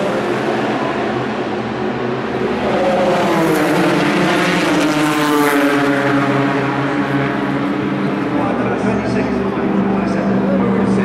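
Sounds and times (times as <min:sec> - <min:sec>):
race car passing at speed: 0:00.0 - 0:11.0.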